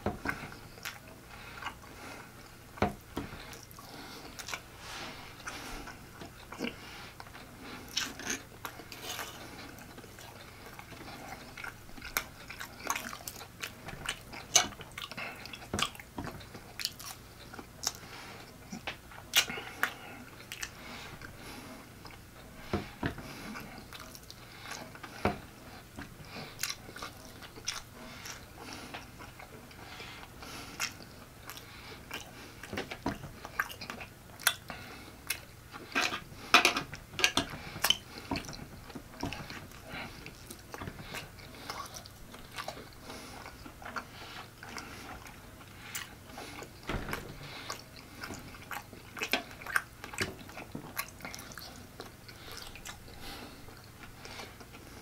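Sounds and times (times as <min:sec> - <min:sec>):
wet chewing and lip smacking: 0:00.2 - 0:02.6, 0:03.4 - 0:55.0.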